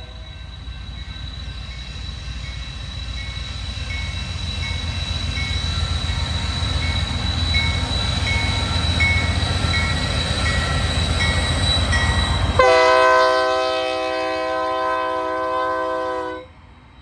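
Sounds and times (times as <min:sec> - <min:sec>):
crossing bell dinging: 0:00.0 - 0:14.7
freight train rumbling: 0:00.0 - 0:17.0.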